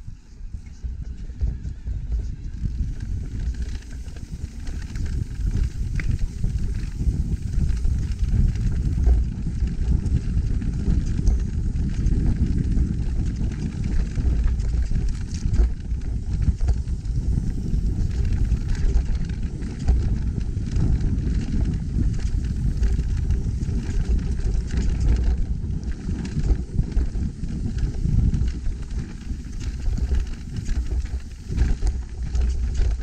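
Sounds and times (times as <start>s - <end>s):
wind on microphone: 0.0s - 33.0s
tyres rumbling on trail: 1.2s - 33.0s
bike rattling clicks and knocks: 2.1s - 33.0s.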